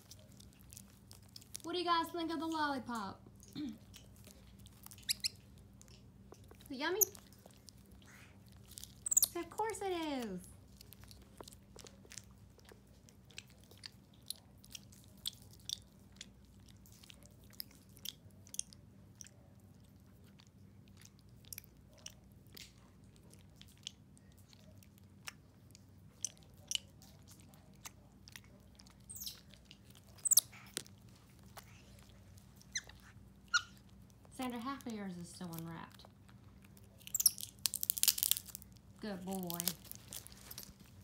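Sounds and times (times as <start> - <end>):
monkey licking and gnawing lollipop: 0.0 - 1.7, 3.2 - 41.0.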